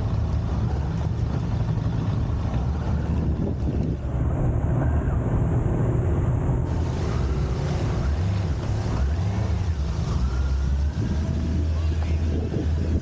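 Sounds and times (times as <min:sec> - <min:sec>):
vehicle engine and road rumble: 0:00.0 - 0:13.0
wind noise on microphone: 0:00.0 - 0:13.0.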